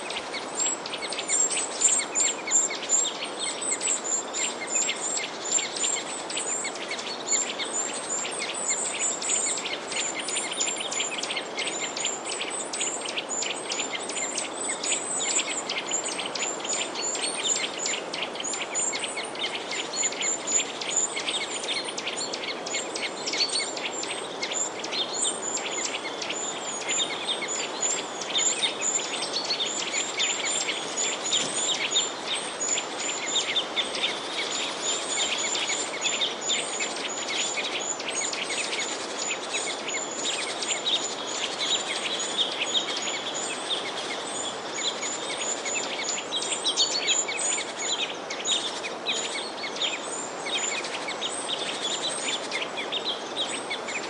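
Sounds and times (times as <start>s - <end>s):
songbirds chirping: 0.0s - 54.0s
steady background hiss: 0.0s - 54.0s.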